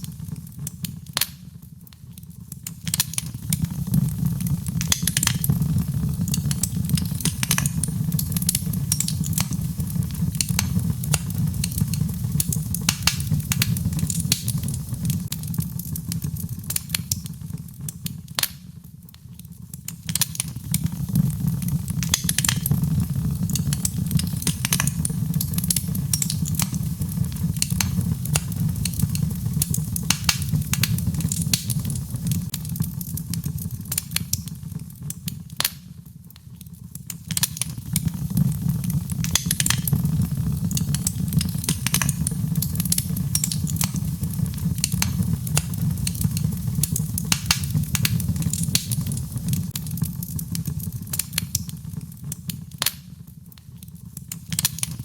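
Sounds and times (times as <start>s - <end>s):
fire crackling in fireplace: 0.0s - 55.0s.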